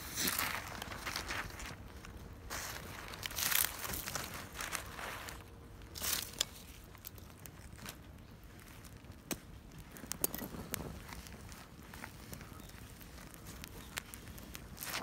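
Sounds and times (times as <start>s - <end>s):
dry leaves and twigs rustling: 0.0s - 15.0s
fire crackling and popping: 0.0s - 15.0s.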